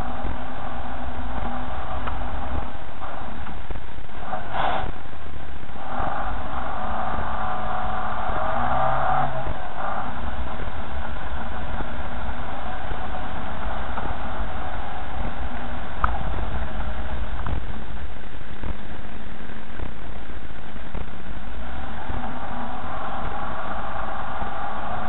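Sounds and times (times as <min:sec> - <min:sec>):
car engine low rumble: 0:00.0 - 0:25.0
high multi-tone whine: 0:00.0 - 0:25.0.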